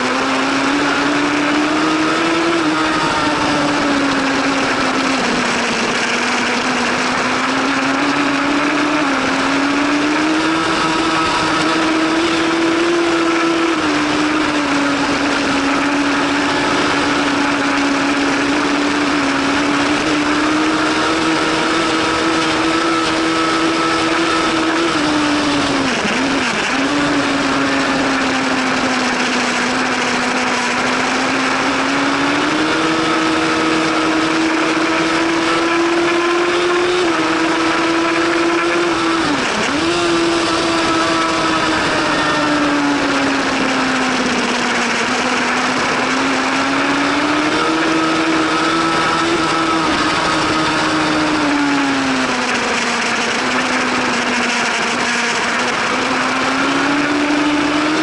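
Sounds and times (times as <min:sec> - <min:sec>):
racing motorcycle engine high revs: 0:00.0 - 0:58.0.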